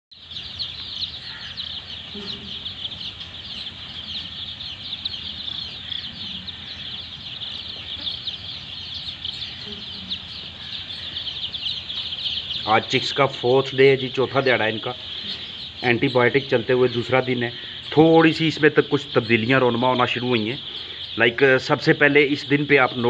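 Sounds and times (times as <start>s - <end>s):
chicks peeping: 0.1s - 23.0s.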